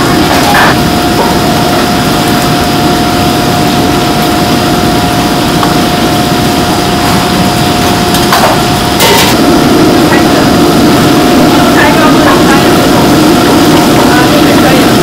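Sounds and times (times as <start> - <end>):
gas burner rushing: 0.0 - 15.0
steady high tone: 0.0 - 15.0
fish sizzling in hot oil: 0.1 - 15.0.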